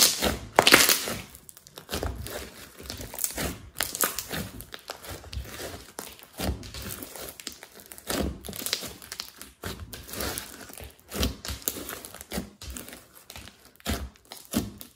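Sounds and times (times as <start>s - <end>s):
slime squelching and crackling: 0.0s - 14.9s.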